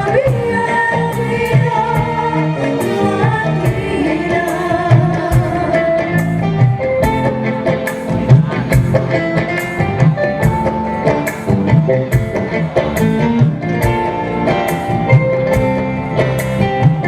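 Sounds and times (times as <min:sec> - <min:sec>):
melodic lead line: 0:00.0 - 0:17.0.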